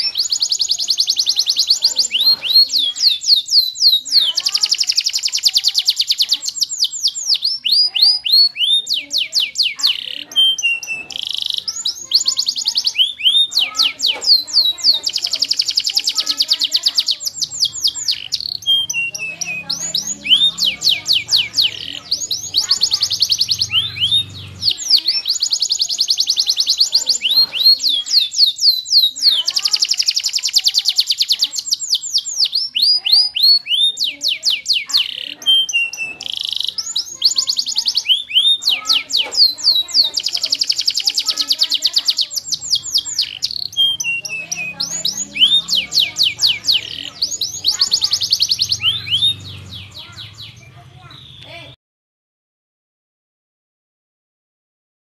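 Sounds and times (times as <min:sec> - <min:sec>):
canary singing trills: 0:00.0 - 0:51.8.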